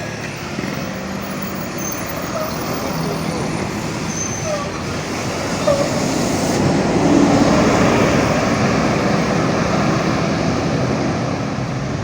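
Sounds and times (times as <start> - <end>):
heavy vehicle passing: 0.0 - 12.0.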